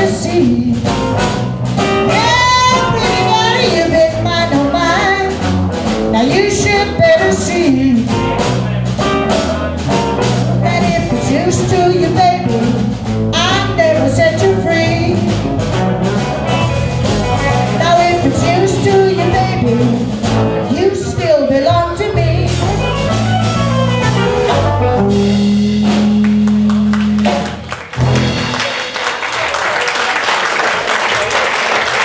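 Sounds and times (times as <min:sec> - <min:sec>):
lead guitar bending: 0:00.0 - 0:28.7
live rock band playing: 0:00.0 - 0:31.0.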